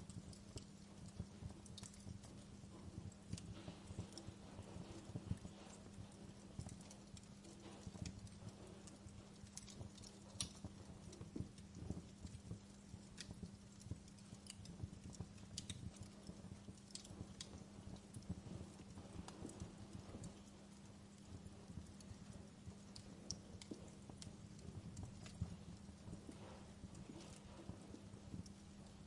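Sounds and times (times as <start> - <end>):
steady low hum: 0.0 - 29.0
wood fire crackling: 0.0 - 29.0.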